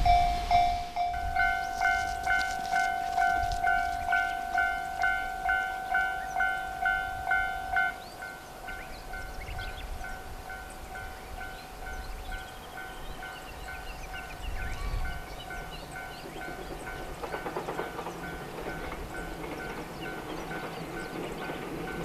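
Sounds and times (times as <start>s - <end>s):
birds chirping: 0.0s - 22.0s
level-crossing warning bell: 0.0s - 22.0s
rattling train rumble: 0.0s - 22.0s.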